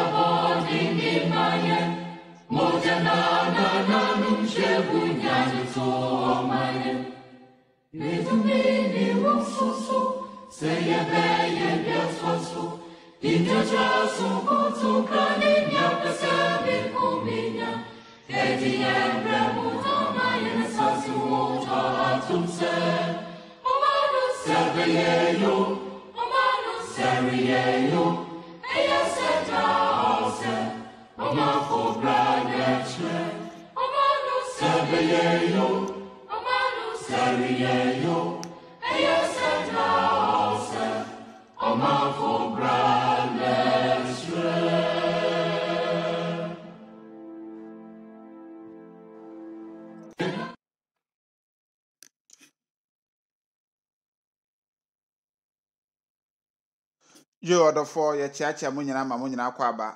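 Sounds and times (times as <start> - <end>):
choir singing: 0.0 - 50.6.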